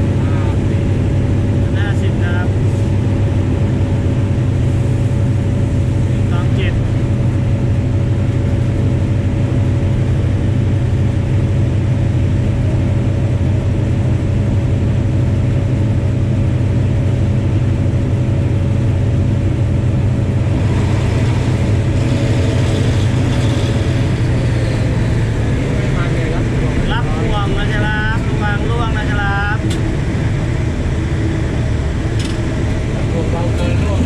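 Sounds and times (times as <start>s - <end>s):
diesel locomotive engine hum: 0.0s - 34.0s
wheels rattling on track: 0.0s - 34.0s.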